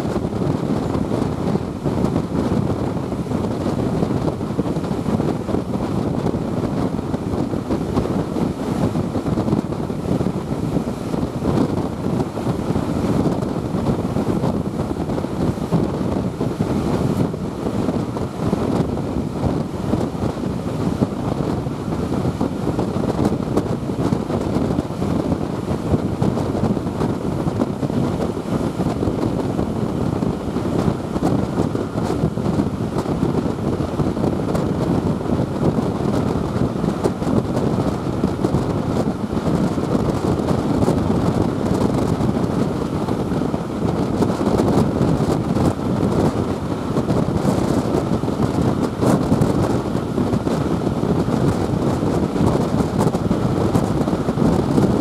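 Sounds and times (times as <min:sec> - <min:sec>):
train running noise: 0:00.0 - 0:55.0
wind rushing over microphone: 0:00.0 - 0:55.0.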